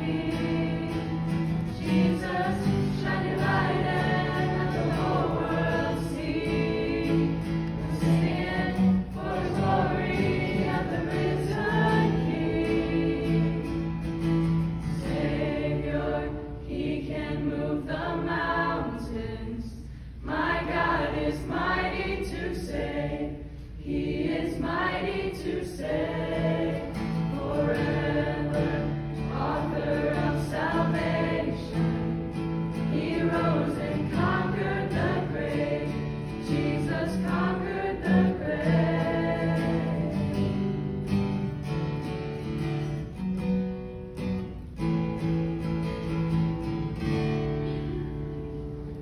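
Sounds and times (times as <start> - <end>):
small choir singing: 0.0 - 41.8
acoustic guitar: 0.0 - 49.0.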